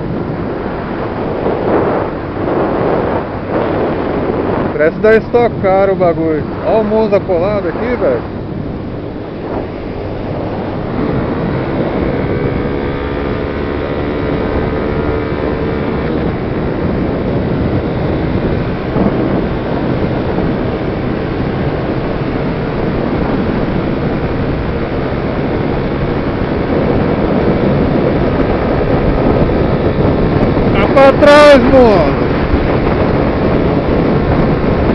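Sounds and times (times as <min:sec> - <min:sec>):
engine drone: 0:00.0 - 0:34.9
low road rumble: 0:00.0 - 0:34.9
wind buffeting microphone: 0:00.0 - 0:34.9.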